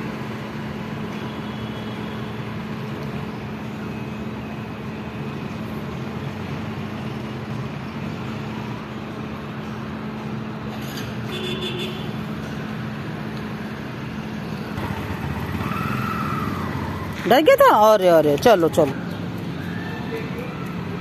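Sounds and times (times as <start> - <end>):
low street hum: 0.0 - 21.0.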